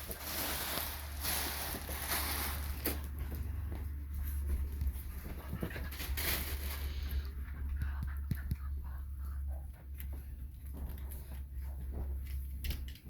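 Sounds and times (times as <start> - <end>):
dogs scuffling and playing: 0.0 - 13.0
steady low hum: 0.2 - 12.8.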